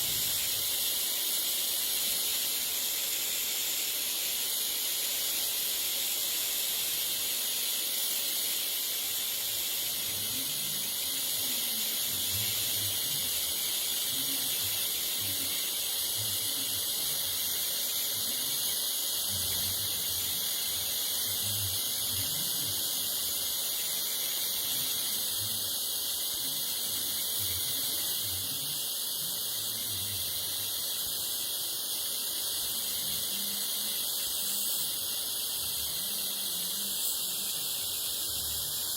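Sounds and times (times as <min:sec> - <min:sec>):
welding arc hissing: 0:00.0 - 0:38.9.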